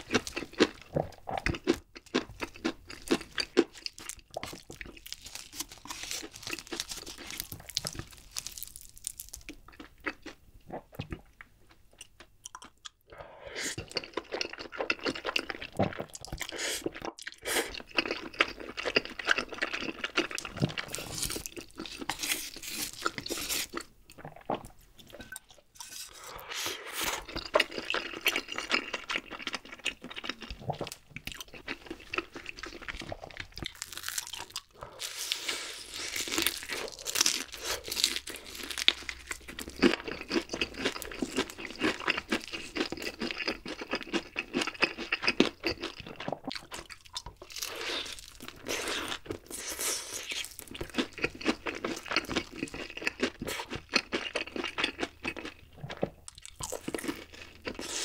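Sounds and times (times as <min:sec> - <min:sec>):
fried chicken crunching and chewing: 0:00.0 - 0:10.4, 0:13.7 - 0:24.6, 0:25.8 - 0:58.0.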